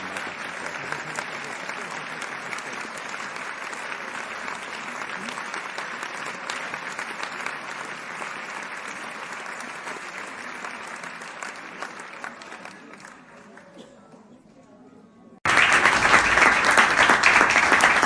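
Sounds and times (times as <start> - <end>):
audience applause: 0.0 - 13.7, 15.4 - 18.0.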